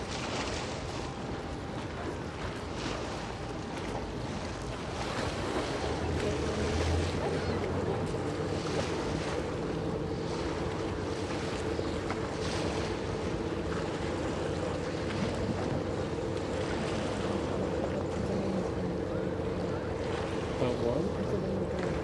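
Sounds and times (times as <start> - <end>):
ship machinery hum: 0.0 - 22.0
water washing: 0.0 - 22.0.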